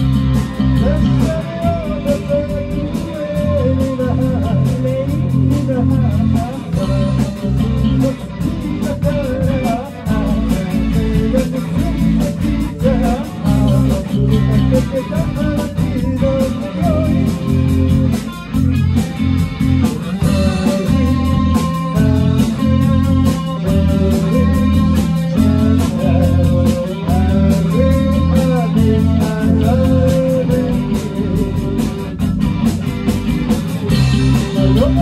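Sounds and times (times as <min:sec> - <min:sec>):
drums keeping steady beat: 0:00.0 - 0:35.0
electric guitar: 0:00.0 - 0:35.0.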